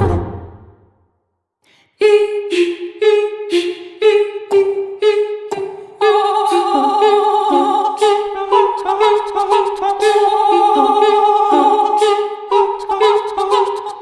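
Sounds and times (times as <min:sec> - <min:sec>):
a cappella voices singing: 0:01.8 - 0:14.0.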